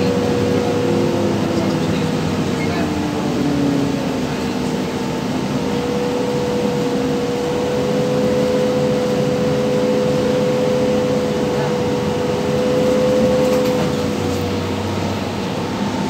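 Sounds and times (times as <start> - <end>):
road and cabin noise: 0.0 - 16.0.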